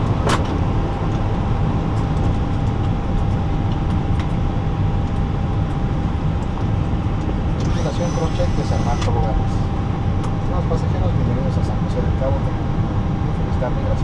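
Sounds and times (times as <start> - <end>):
aircraft cockpit rumble and hum: 0.0 - 14.0.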